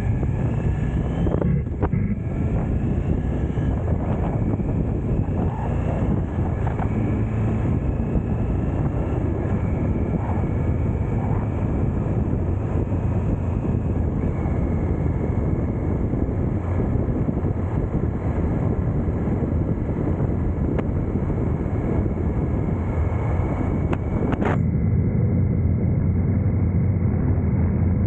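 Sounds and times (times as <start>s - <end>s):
motorcycle engine cruising: 0.0s - 28.0s
wind rush on microphone: 0.0s - 28.0s.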